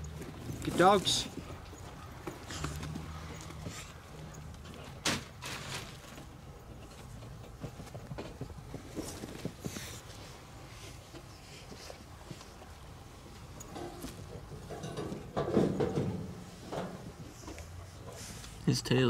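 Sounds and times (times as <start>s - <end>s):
animal rustling and scratching: 0.0s - 18.6s.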